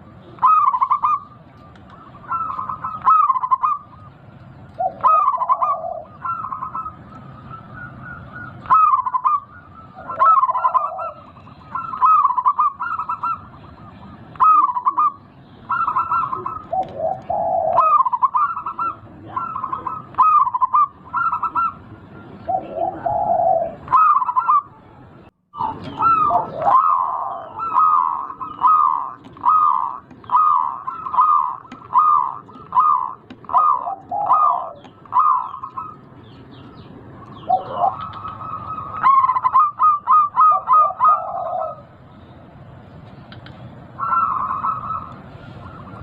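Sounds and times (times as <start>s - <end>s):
dove cooing: 0.0s - 25.0s, 25.6s - 42.0s, 43.4s - 46.0s.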